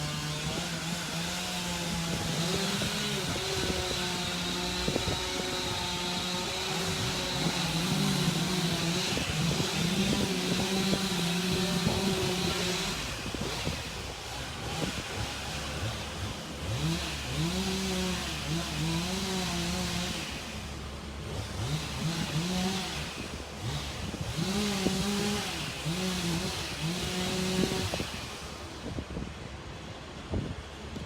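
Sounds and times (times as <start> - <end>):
engine revving: 0.0 - 29.2.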